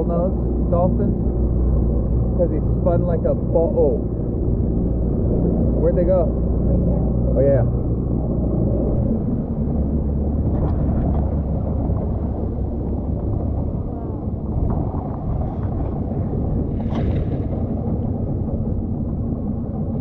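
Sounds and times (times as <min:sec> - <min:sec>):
outboard motor running: 0:00.0 - 0:20.0
water noise: 0:00.0 - 0:20.0
wind noise: 0:00.0 - 0:20.0.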